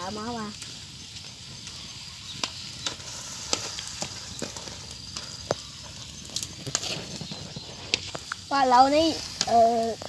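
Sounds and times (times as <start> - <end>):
simmering pan hiss: 0.0 - 10.0.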